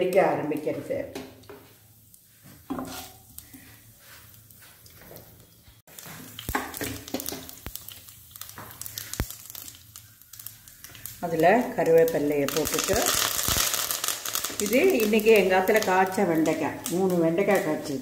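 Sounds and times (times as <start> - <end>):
seeds spluttering in hot oil: 1.4 - 18.0.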